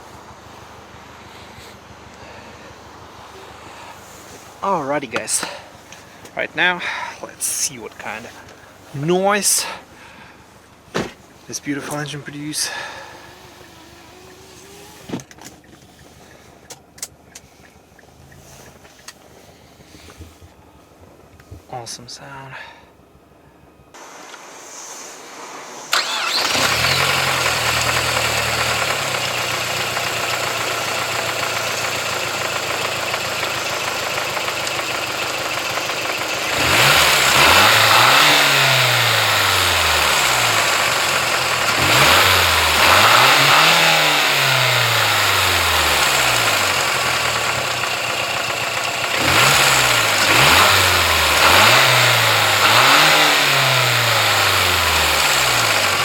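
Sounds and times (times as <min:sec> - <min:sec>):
car engine idling and revving: 0:00.0 - 0:21.6, 0:25.8 - 0:56.0.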